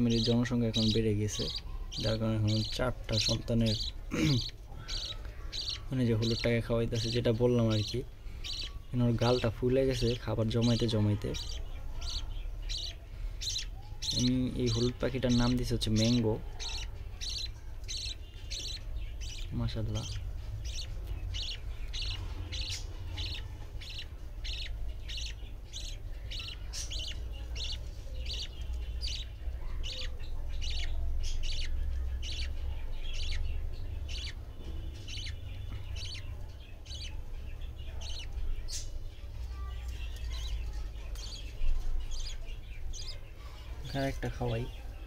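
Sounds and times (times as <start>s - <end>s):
budgerigars chirping: 0.0s - 45.0s.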